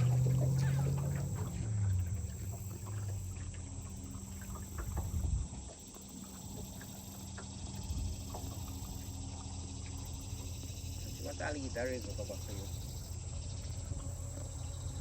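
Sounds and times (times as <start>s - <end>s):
outboard motor humming: 0.0s - 15.0s.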